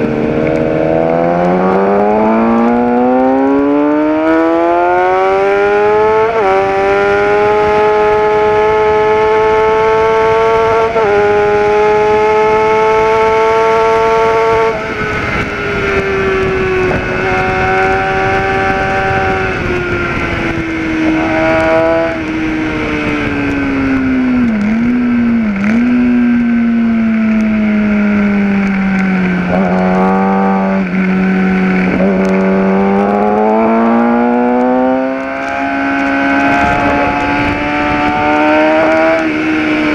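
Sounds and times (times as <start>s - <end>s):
motorcycle engine at full throttle: 0.0s - 39.9s
wind rush: 0.0s - 39.9s.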